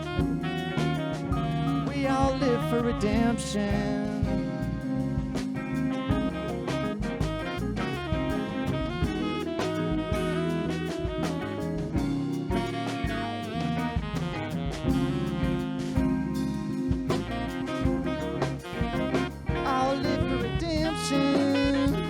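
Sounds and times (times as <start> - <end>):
drum kit and bass: 0.0 - 22.0
saxophone melody: 0.0 - 22.0.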